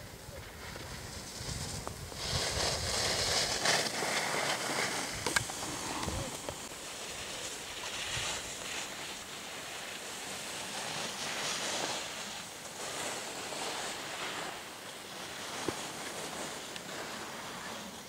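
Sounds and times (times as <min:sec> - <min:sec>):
wind hiss: 0:00.0 - 0:18.0.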